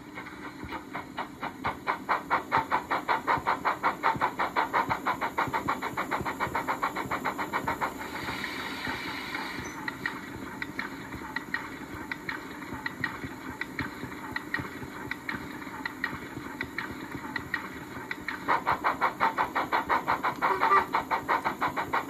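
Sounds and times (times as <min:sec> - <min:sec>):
steam locomotive exhaust chuffs: 0:00.0 - 0:22.0
steady hiss: 0:00.1 - 0:22.0
scattered clicks: 0:00.2 - 0:22.0.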